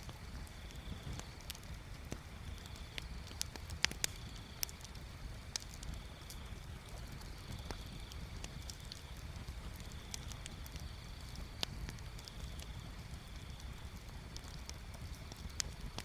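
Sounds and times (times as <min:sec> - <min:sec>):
bonfire crackling: 0:00.0 - 0:16.0.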